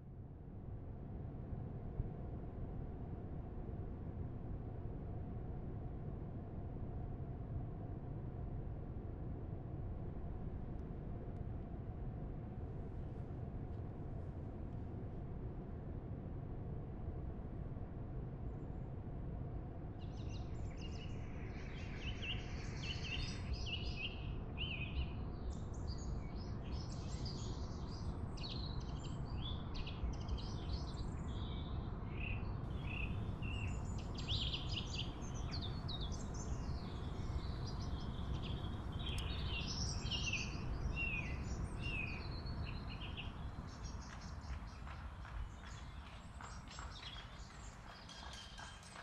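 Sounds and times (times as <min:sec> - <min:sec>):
low outdoor rumble: 0:00.0 - 0:49.0.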